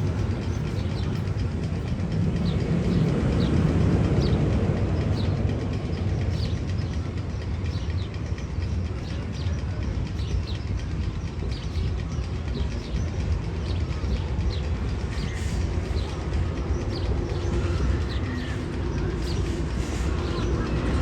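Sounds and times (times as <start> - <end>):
low train-like rumble: 0.0 - 21.0.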